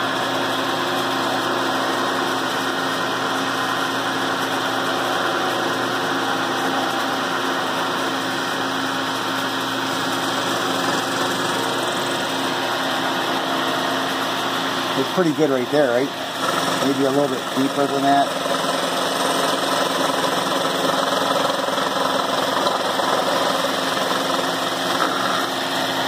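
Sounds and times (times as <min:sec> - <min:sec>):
milling machine cutting metal: 0:00.0 - 0:26.0.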